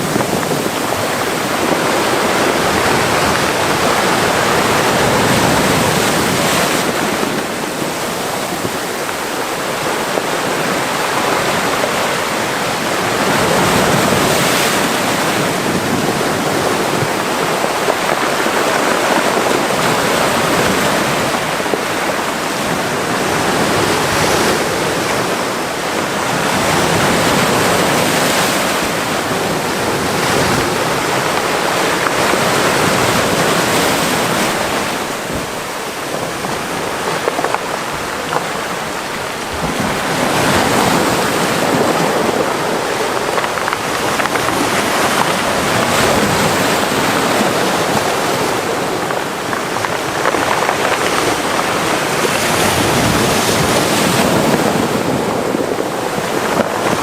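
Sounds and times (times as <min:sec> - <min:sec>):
sea waves washing into rocky cove: 0:00.0 - 0:57.0.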